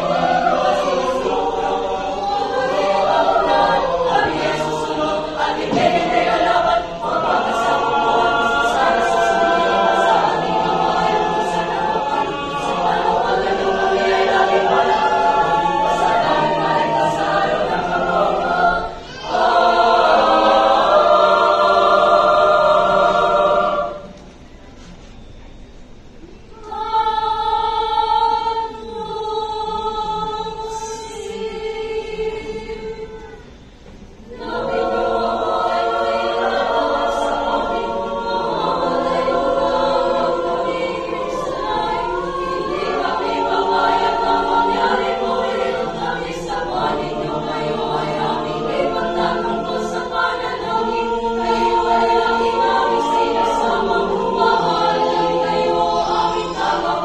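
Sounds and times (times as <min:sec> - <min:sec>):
women's choir singing: 0:00.0 - 0:25.1, 0:26.2 - 0:57.0.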